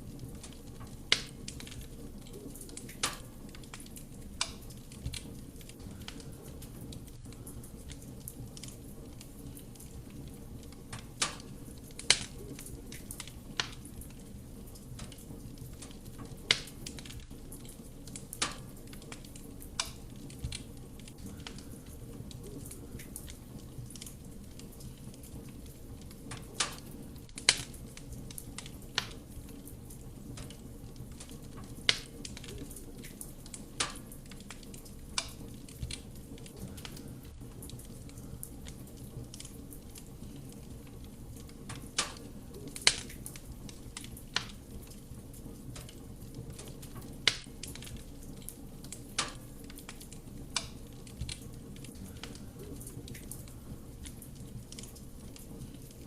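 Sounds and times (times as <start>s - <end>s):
burning wood crackling and popping: 0.0s - 56.0s
fire flames rumbling: 0.0s - 56.0s.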